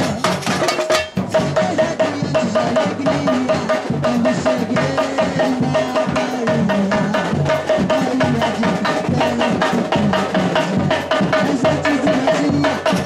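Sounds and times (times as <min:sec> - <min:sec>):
high repeating percussion note: 0:00.0 - 0:13.0
samba drums playing: 0:00.0 - 0:13.0.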